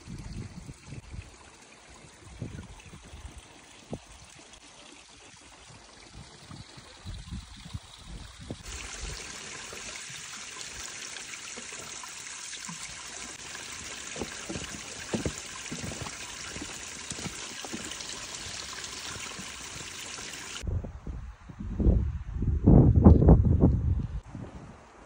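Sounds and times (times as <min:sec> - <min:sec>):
water trickling onto stones: 0:00.0 - 0:20.6.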